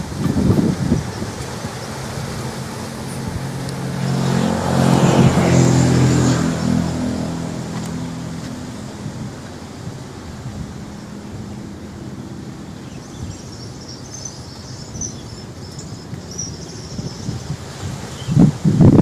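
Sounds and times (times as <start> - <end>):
passing vehicle engine: 0.0 - 18.6.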